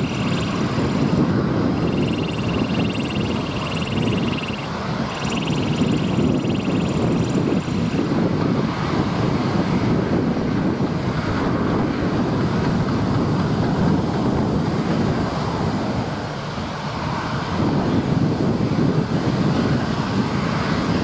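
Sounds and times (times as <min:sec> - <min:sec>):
jet engines rumbling: 0:00.0 - 0:21.0
wind buffeting microphone: 0:00.0 - 0:21.0.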